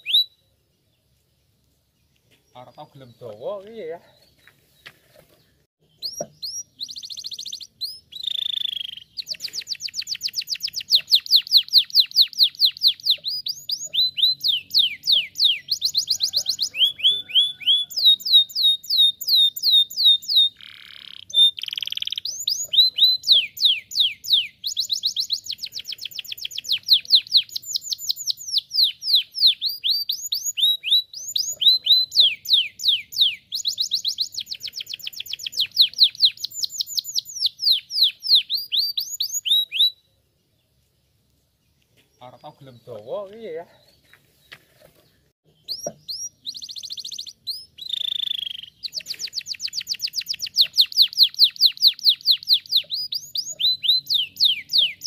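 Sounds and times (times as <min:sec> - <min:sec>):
canary singing trills: 0:00.0 - 0:01.6, 0:05.8 - 0:40.7, 0:45.0 - 0:55.0.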